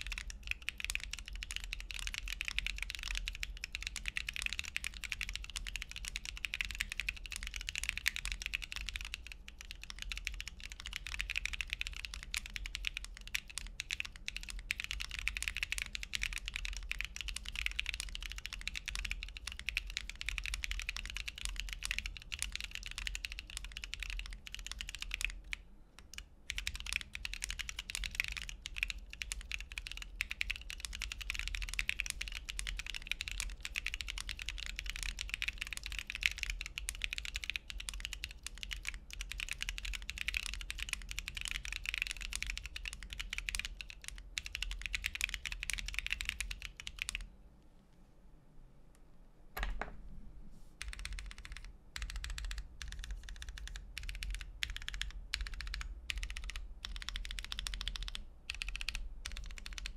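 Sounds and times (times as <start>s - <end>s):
mechanical keyboard typing: 0.0s - 47.3s, 50.8s - 59.9s.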